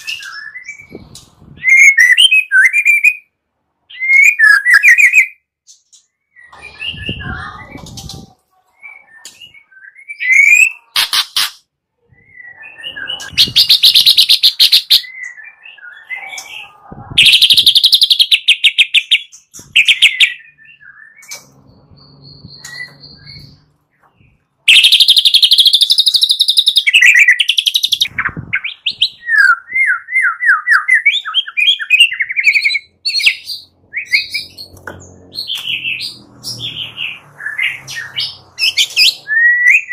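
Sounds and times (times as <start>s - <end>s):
bird whistled phrases and chirps: 0.0s - 5.5s, 6.2s - 11.5s, 12.1s - 23.6s, 24.7s - 34.7s, 35.4s - 39.9s.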